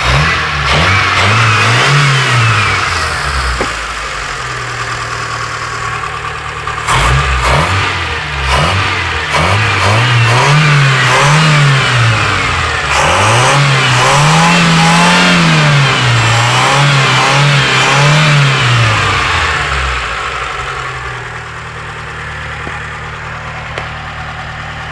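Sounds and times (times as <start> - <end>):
car engine idling and revving: 0.0 - 24.9
engine knocking noise: 0.0 - 24.9.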